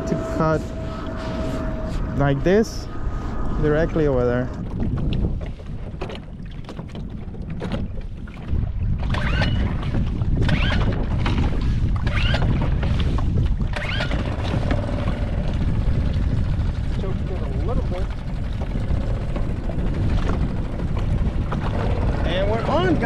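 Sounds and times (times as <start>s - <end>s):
wind buffeting microphone: 0.0s - 23.0s
outboard motor running: 4.2s - 23.0s.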